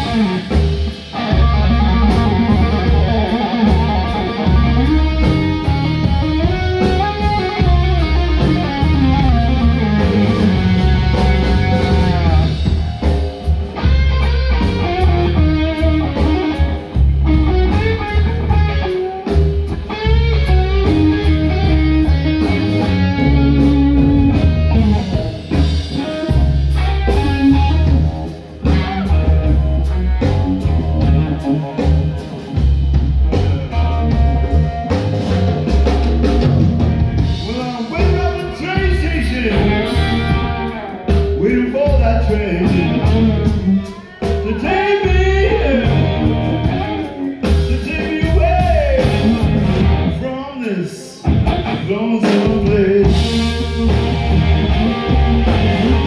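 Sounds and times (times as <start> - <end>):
electric guitar lead with bends: 0.0 - 50.5, 51.1 - 56.0
live blues rock band: 0.0 - 56.0.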